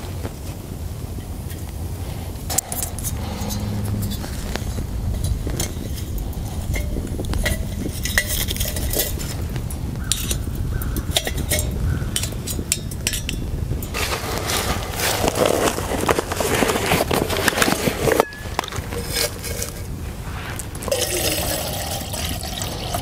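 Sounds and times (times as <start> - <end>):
steady low rumble: 0.1 - 17.5, 18.4 - 21.7.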